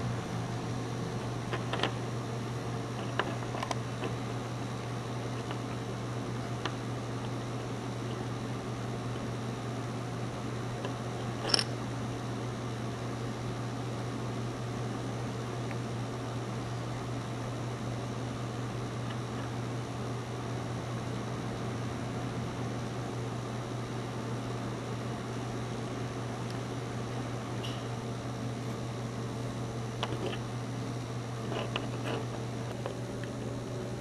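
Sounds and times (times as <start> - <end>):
room noise hum and hiss: 0.0 - 34.0.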